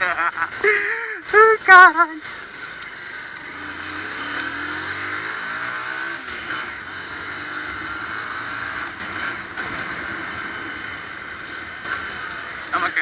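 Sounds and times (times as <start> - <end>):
traffic noise: 0.0 - 13.0
vehicle engine revving: 0.0 - 13.0.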